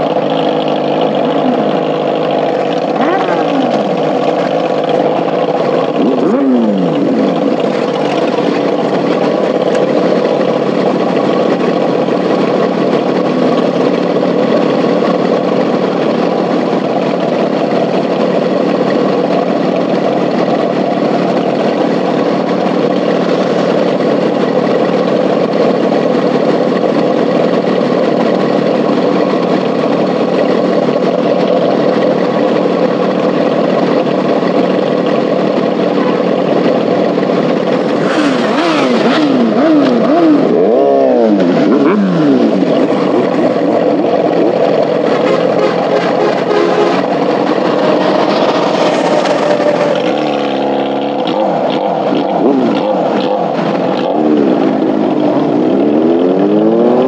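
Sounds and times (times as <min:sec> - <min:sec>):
motorcycle engine revving: 0:00.0 - 0:57.0
motorcycle engines idling: 0:00.0 - 0:57.0.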